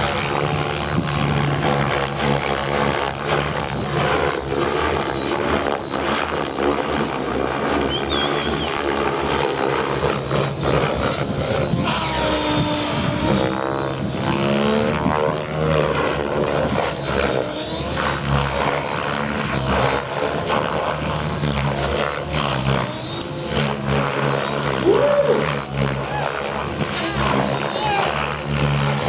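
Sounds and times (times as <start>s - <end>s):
model helicopter rotor and motor: 0.0s - 29.0s.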